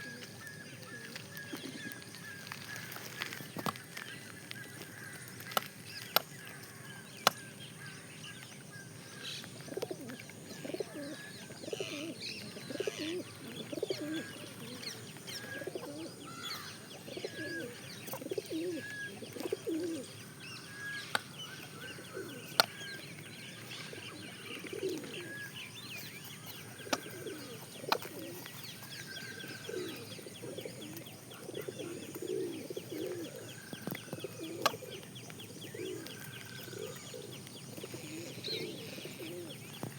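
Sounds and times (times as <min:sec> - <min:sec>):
pigeons cooing: 0:00.0 - 0:03.7, 0:09.6 - 0:39.9
small birds chirping: 0:00.0 - 0:39.9.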